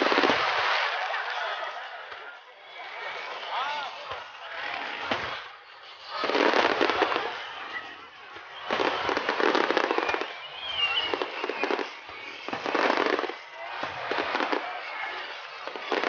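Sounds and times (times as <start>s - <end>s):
fireworks crackling bangs: 0.0s - 16.0s.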